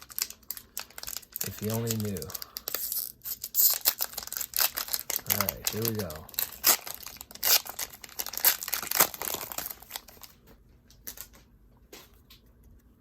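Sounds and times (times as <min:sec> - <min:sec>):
wrapper crinkling and tearing: 0:00.0 - 0:11.4.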